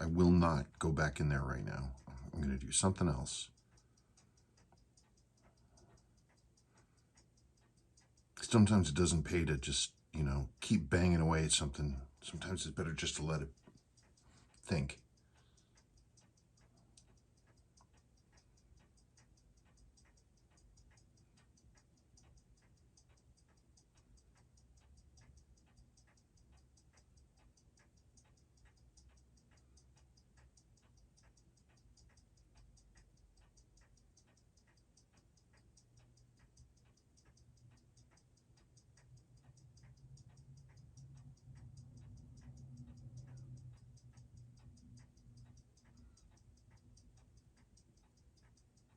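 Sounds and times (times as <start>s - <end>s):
watch ticking: 0.0s - 48.9s.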